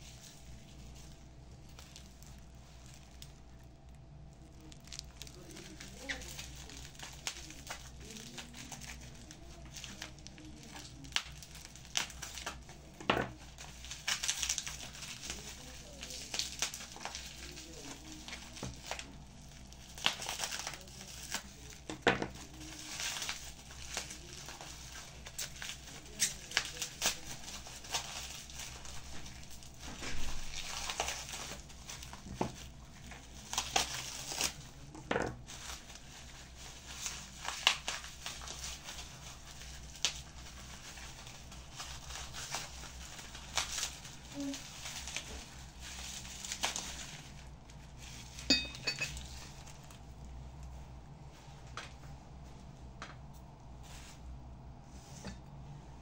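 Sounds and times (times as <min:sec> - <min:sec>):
crinkling and rustling: 0:00.0 - 0:54.3.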